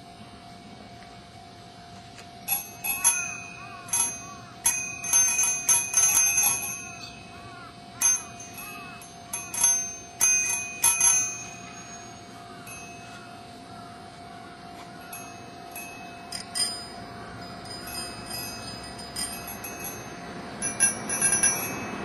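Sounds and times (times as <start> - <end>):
small metal bells ringing: 2.4 - 13.5, 14.9 - 22.0.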